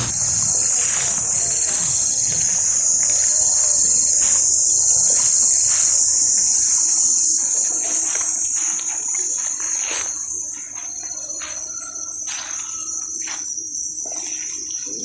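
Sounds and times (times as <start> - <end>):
insects droning: 0.0 - 15.0
lower insect trill: 0.0 - 15.0.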